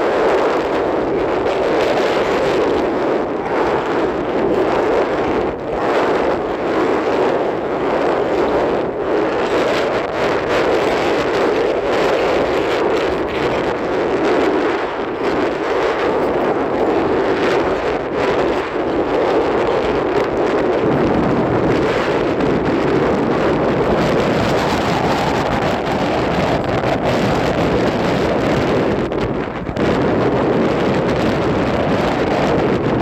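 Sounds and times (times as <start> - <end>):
strong wind on microphone: 0.0 - 33.0.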